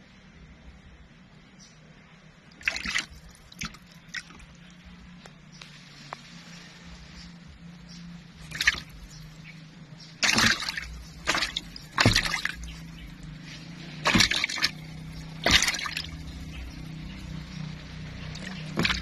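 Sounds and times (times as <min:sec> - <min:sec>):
low steady hum: 0:00.0 - 0:19.0
muddy water splashing in a tub: 0:02.5 - 0:19.0.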